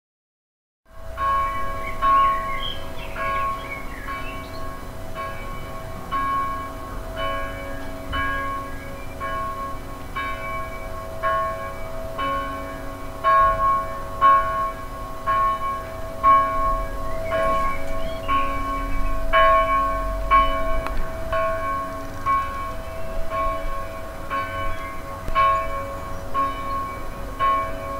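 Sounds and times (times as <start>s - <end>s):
church bells ringing: 0.9s - 27.9s.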